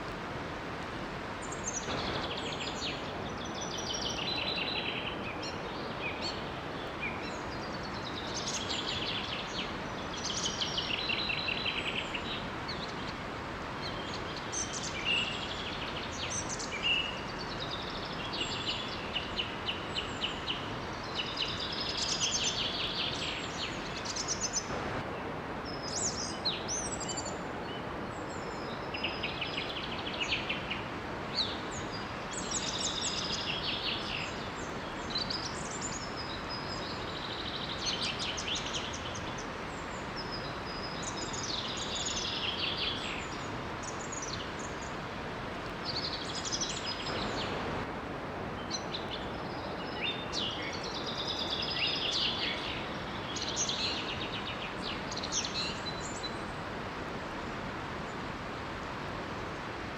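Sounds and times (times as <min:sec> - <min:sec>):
small waterfall rushing: 0:00.0 - 0:59.9
songbirds trilling and chirping: 0:01.0 - 0:25.0, 0:25.7 - 0:59.8.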